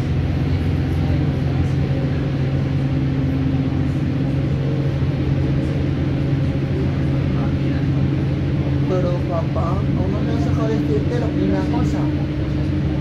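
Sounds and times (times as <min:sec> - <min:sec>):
vehicle cabin hum: 0:00.0 - 0:13.0.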